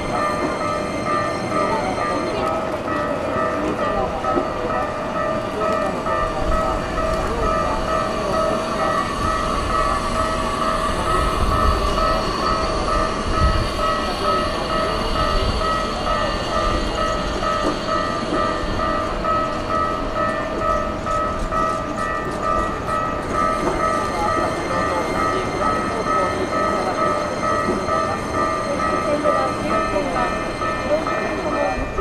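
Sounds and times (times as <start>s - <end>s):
level crossing warning bell: 0.0s - 32.0s
train rumble: 0.0s - 32.0s.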